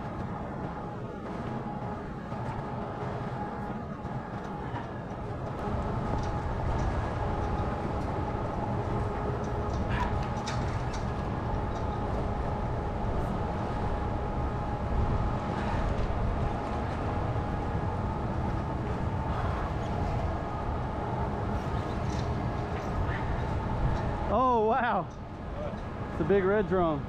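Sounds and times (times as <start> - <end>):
faint steady hum: 0.0 - 27.0
low mechanical rumble: 0.0 - 27.0.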